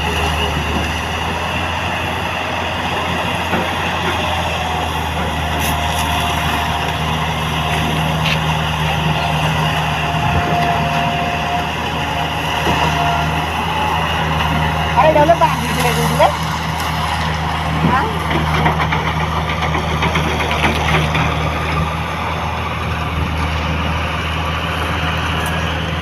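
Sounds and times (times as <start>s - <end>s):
road noise: 0.0s - 26.0s
vehicle engine running: 0.0s - 26.0s.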